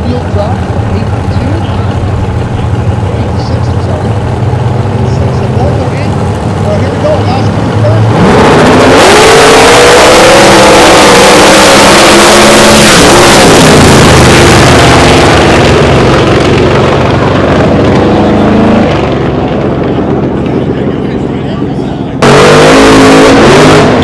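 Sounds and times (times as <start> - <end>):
drag cars at full throttle: 0.0 - 24.0.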